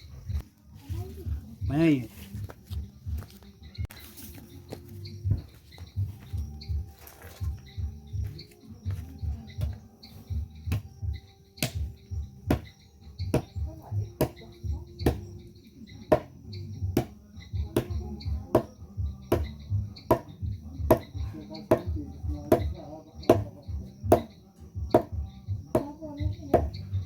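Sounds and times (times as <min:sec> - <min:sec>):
music with pulsing low beat: 0:00.0 - 0:27.0.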